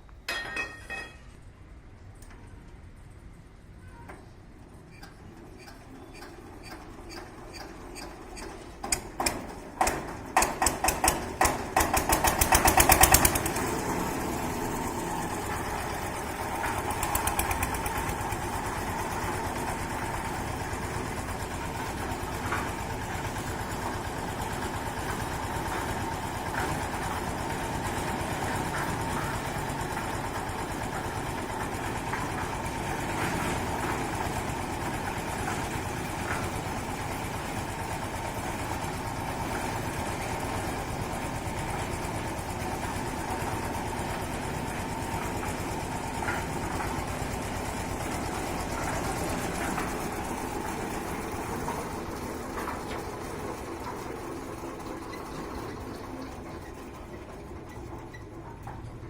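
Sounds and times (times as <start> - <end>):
engine starting and running: 4.5 - 59.0.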